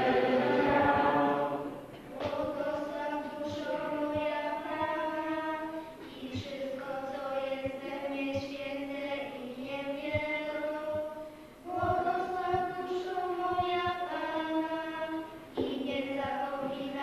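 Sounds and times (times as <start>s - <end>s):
children singing hymn: 0.0s - 17.0s.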